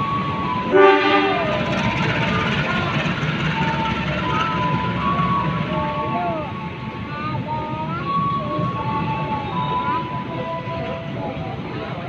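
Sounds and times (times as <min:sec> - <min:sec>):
high train squealing: 0:00.0 - 0:12.0
train rumbling past: 0:00.0 - 0:12.0.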